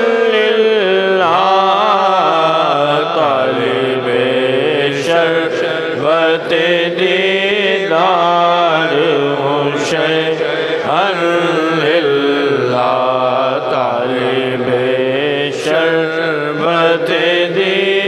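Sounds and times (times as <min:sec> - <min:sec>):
man singing long notes: 0:00.0 - 0:18.0.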